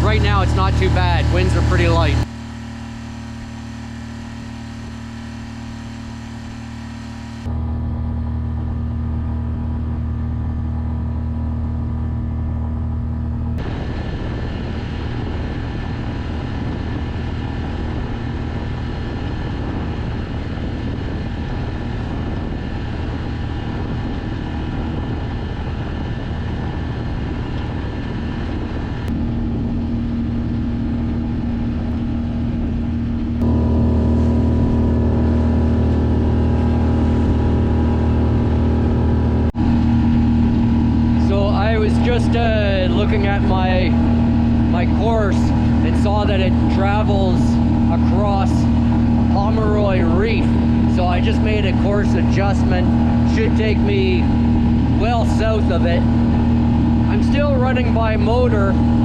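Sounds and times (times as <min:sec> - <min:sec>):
boat motor drone: 0:00.0 - 0:59.0.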